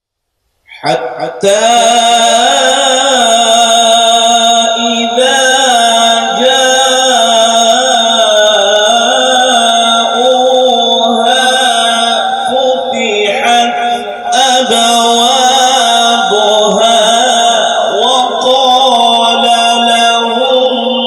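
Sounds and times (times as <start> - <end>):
man chanting melodically: 0.7 - 21.0.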